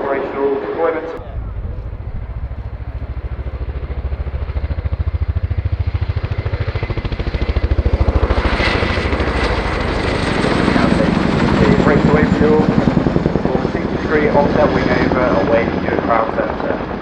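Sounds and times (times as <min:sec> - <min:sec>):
helicopter rotor blade slap: 0:00.0 - 0:17.0.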